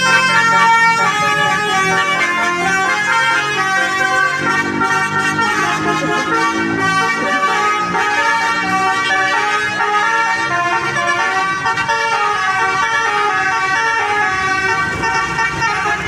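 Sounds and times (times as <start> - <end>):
air horn playing a tune: 0.0 - 16.0.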